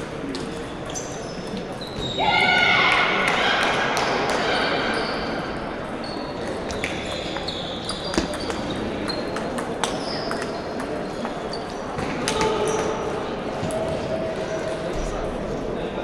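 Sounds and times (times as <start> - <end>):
murmur of voices: 0.0 - 16.0.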